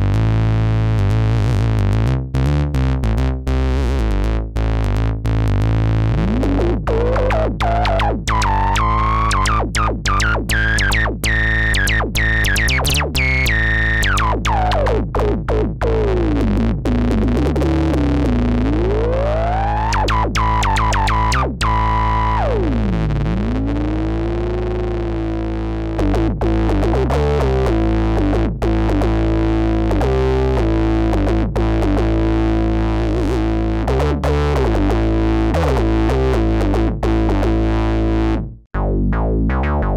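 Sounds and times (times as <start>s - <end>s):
synthesizer heavy bass: 0.0s - 39.9s
synth filter sweep: 6.0s - 39.9s.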